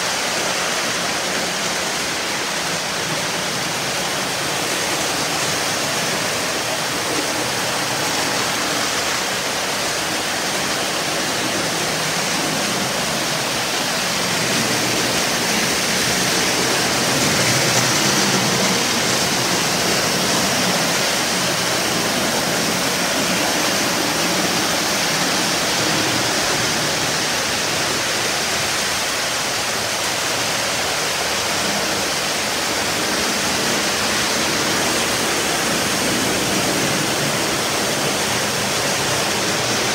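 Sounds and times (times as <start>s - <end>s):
model trains running on track: 0.0s - 39.9s.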